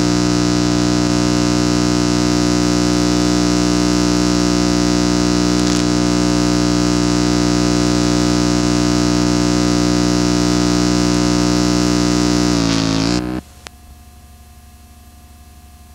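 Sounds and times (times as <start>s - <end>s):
faint tape hiss: 0.0s - 13.9s.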